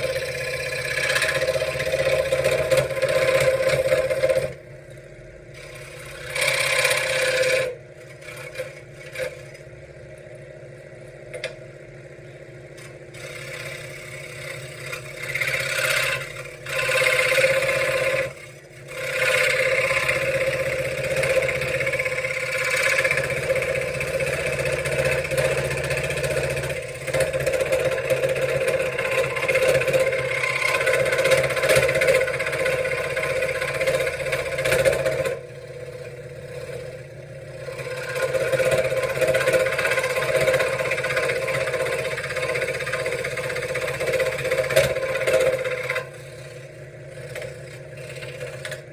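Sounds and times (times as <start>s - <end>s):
scroll saw cutting wood: 0.0s - 9.8s, 12.8s - 48.9s.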